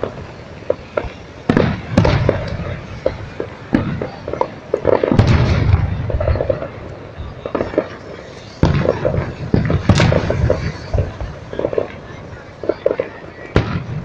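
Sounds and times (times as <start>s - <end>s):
firework bangs: 0.0s - 14.0s
firework crackling: 0.0s - 14.0s.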